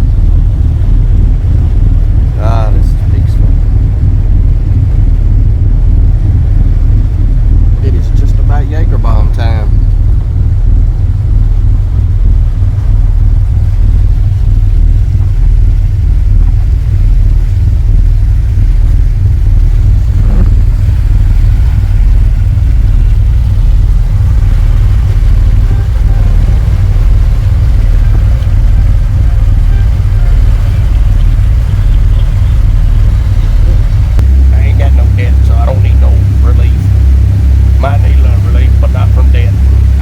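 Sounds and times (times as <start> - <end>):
boat engines rumbling: 0.0 - 40.0.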